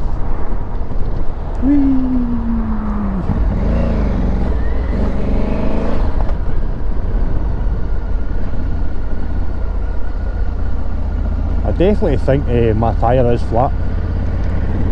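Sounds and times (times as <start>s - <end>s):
motorcycle engine running: 1.3s - 14.9s.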